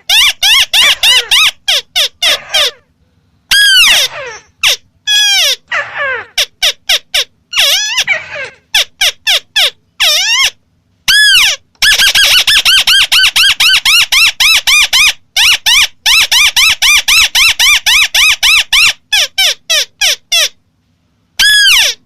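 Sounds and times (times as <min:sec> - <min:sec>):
crake calling: 0:00.0 - 0:20.6.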